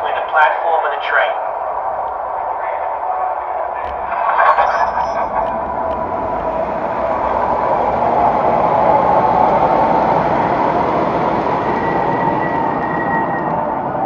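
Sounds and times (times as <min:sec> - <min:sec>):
model train rolling hum: 0:00.0 - 0:14.0.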